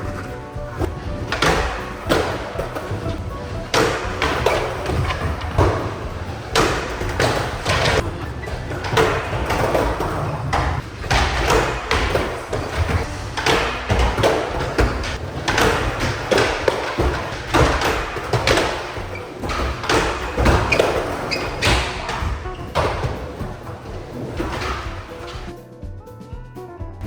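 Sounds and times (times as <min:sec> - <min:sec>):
skateboard clacking on ground: 0:00.0 - 0:25.6
skateboard wheels rumbling: 0:00.0 - 0:25.6.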